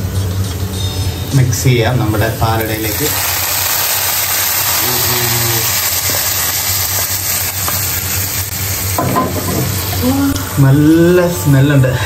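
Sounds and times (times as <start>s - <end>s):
nuts frying in hot fat: 1.3s - 11.4s.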